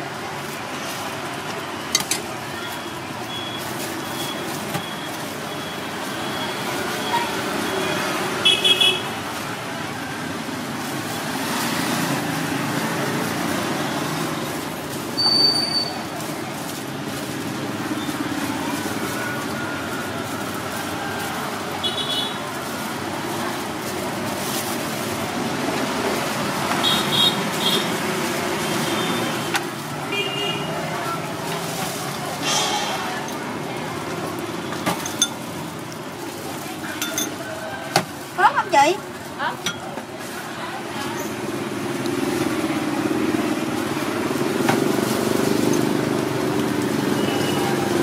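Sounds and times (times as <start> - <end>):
street traffic: 0.0 - 48.0.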